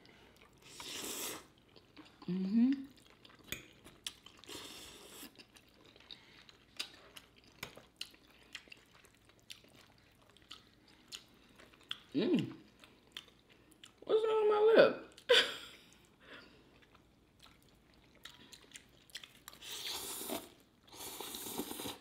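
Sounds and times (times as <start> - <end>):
eating sounds: 0.0 - 14.1, 15.1 - 22.0.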